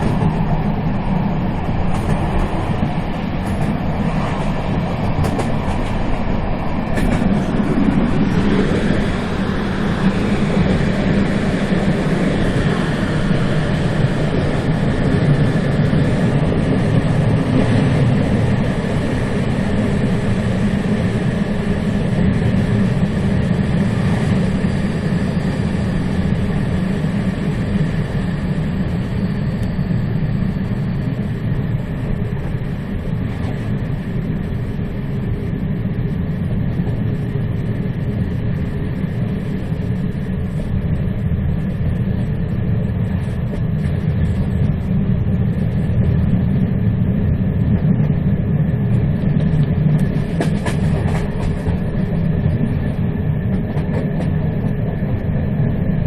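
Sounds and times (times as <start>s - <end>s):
faint steady whine: 0.0s - 56.0s
train wheels rumbling on track: 0.0s - 56.0s.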